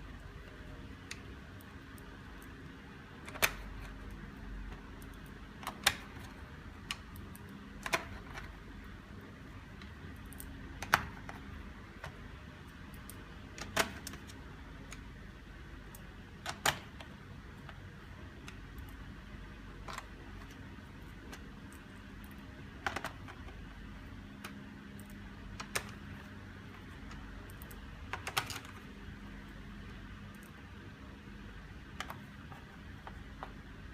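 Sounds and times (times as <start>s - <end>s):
small parts and tools clicking: 0.0s - 9.1s, 9.7s - 30.8s, 31.7s - 33.9s
steady low hum: 0.0s - 33.9s.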